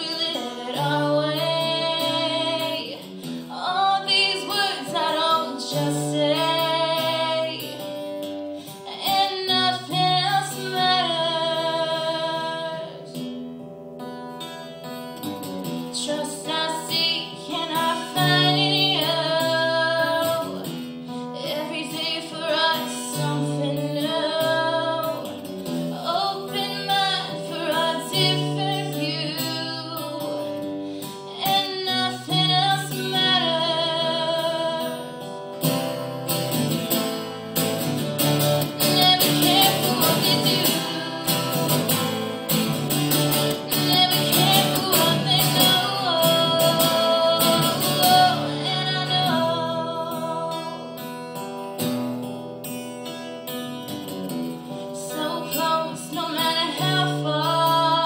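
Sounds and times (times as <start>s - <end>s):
female lead vocal: 0.0s - 13.3s, 15.8s - 35.5s, 38.4s - 51.3s, 54.7s - 58.0s
acoustic guitars strummed: 0.0s - 58.0s.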